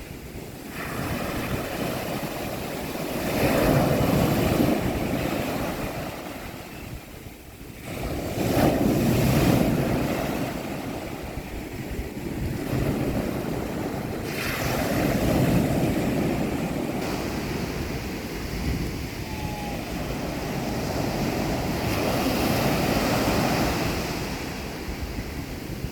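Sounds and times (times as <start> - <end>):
sea waves breaking on beach: 0.0 - 25.9.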